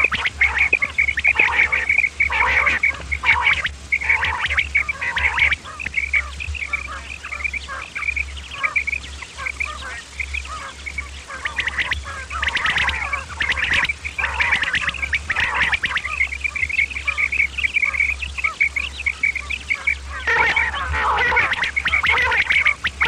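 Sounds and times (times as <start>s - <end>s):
quail calling: 0.0s - 23.0s
steady low hum: 0.0s - 23.0s.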